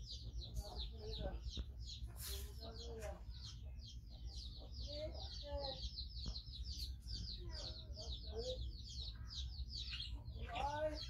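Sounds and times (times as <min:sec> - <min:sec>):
bird chirping rapidly: 0:00.0 - 0:11.0
lower bird calls: 0:00.0 - 0:11.0.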